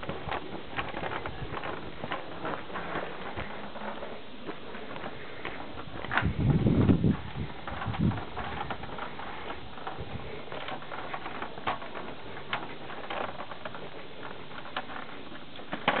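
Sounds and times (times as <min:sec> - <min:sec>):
small wheels rolling over asphalt: 0:00.0 - 0:16.0.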